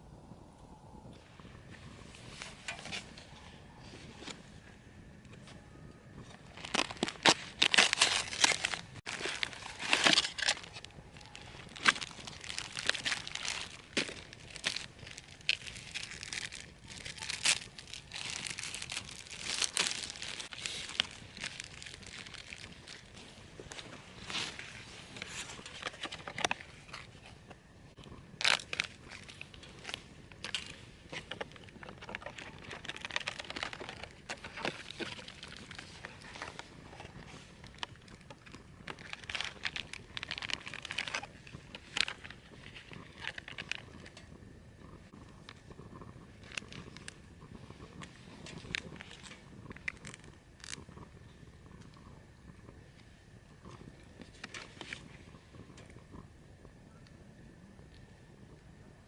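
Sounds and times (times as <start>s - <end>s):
crinkling and crumpling: 1.2s - 57.2s
sharp rustles and clicks: 6.3s - 27.6s, 28.4s - 56.3s.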